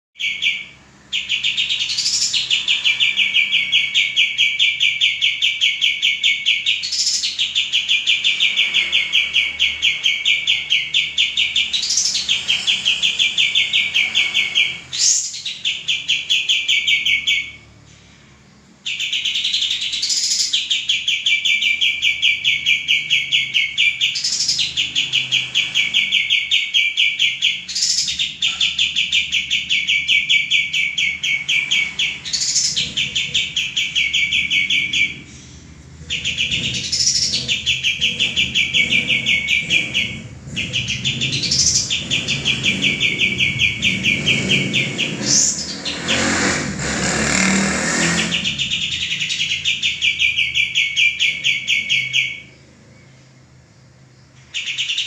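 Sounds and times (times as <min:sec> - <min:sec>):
songbird singing fast trills: 0:00.2 - 0:17.6, 0:18.8 - 0:46.2.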